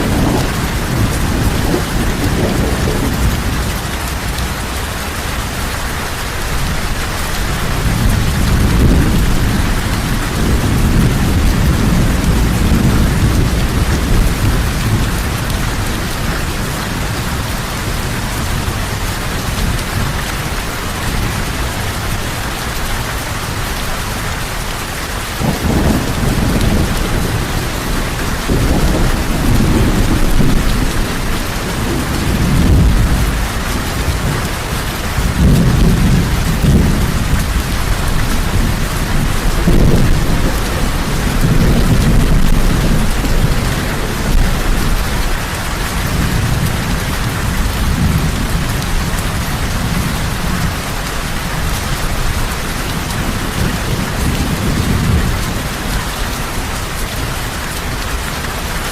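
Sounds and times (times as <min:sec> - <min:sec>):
low rolling thunder: 0:00.0 - 0:05.0, 0:06.6 - 0:22.4, 0:25.4 - 0:58.0
heavy rain falling: 0:00.0 - 0:58.9.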